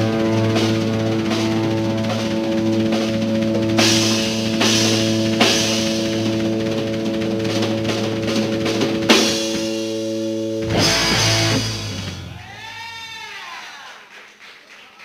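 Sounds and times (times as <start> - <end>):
cymbal crashes: 0.0 - 12.6
ringing electric guitar chord: 0.0 - 12.6
rock band playing: 0.0 - 13.1.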